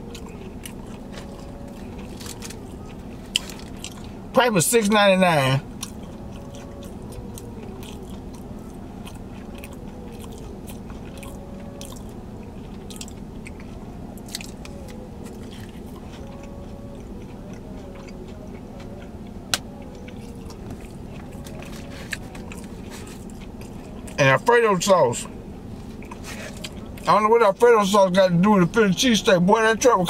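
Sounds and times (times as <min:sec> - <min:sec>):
chewing with wet mouth clicks: 0:00.0 - 0:04.2, 0:05.6 - 0:25.4, 0:26.0 - 0:27.2
steady low hum: 0:00.0 - 0:30.0.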